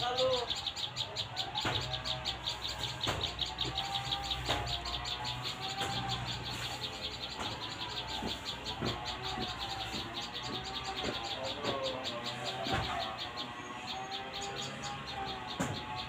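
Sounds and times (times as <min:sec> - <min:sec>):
rapid high-pitched bird chirping: 0:00.0 - 0:16.0.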